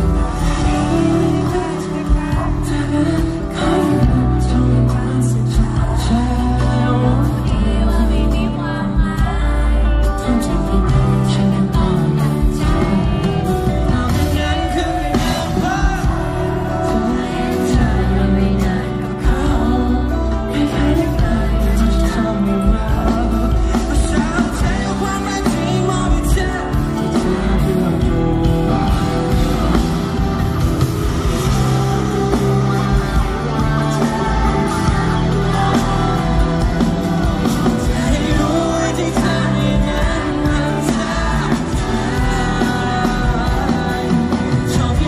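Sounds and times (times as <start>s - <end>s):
electric guitar: 0.0s - 45.0s
man singing: 0.0s - 45.0s
rock band playing: 0.0s - 45.0s.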